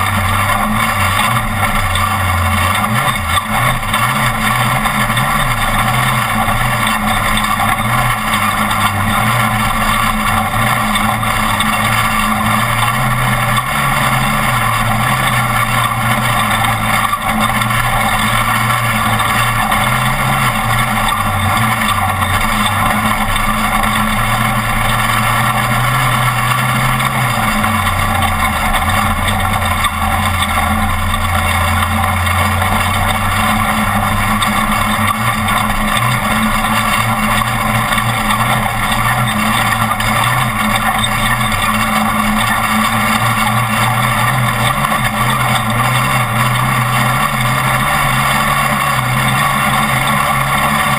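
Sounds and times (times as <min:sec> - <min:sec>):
steady rushing noise: 0:00.0 - 0:50.9
truck engine under load: 0:00.0 - 0:50.9.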